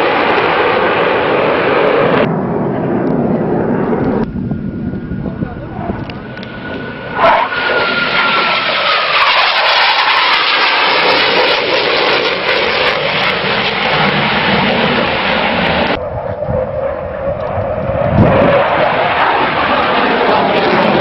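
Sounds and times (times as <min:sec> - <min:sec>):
falling jet whine: 0:00.0 - 0:21.0
jet roar flying past: 0:00.0 - 0:21.0.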